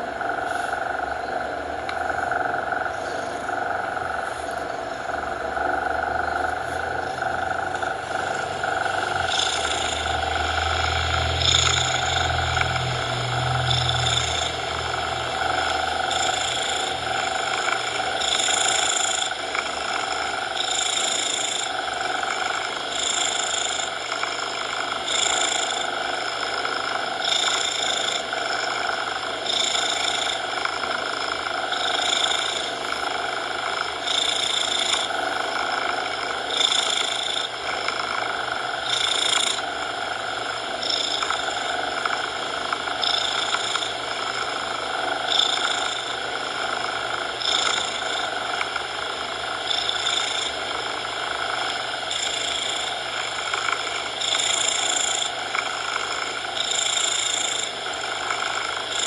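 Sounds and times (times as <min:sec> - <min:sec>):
cat purring: 0:00.0 - 0:59.0
constant hiss: 0:00.0 - 0:59.0.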